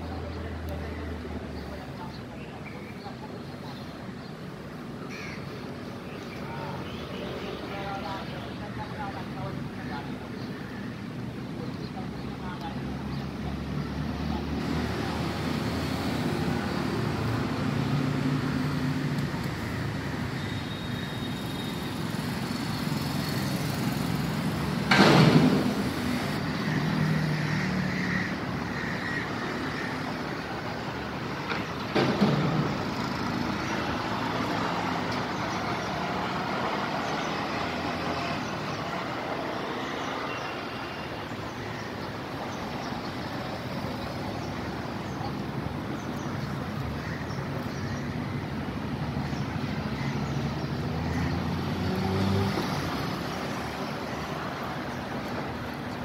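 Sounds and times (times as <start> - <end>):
passing vehicle engines: 0.0 - 56.0.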